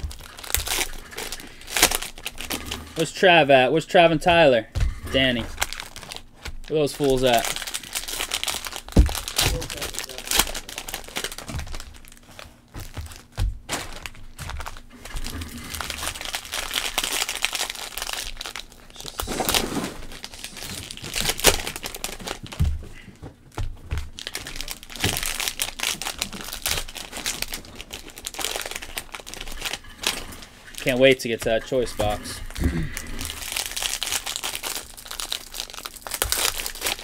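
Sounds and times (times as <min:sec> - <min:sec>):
card pack wrappers crinkling: 0:00.0 - 0:37.0.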